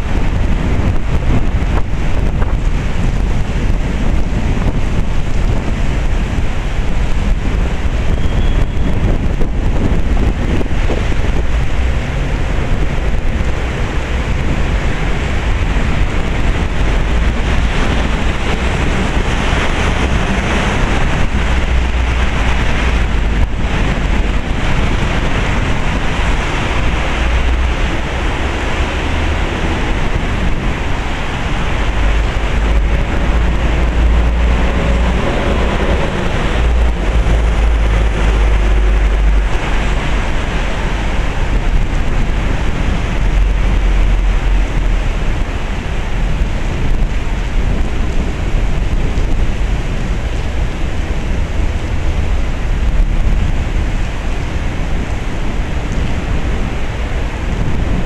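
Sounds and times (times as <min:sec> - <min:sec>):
torrential rain pouring: 0:00.0 - 0:58.0
wind rumbling on microphone: 0:00.0 - 0:58.0.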